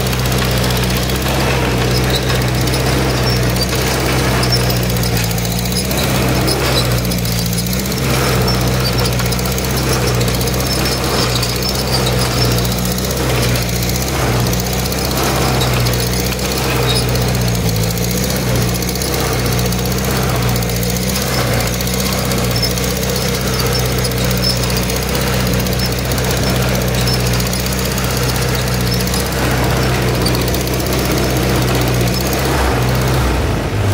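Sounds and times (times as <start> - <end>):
tractor engine running under load: 0.0 - 33.9.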